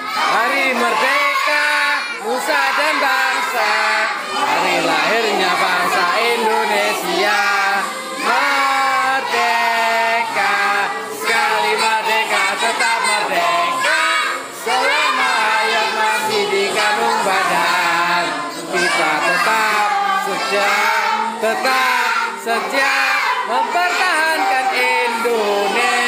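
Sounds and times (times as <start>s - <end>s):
children and women singing: 0.0s - 26.0s.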